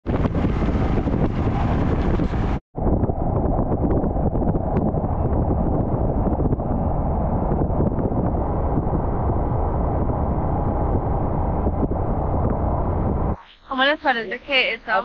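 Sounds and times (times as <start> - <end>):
road noise: 0.0 - 2.6, 4.2 - 15.0
wind buffeting microphone: 0.0 - 13.4.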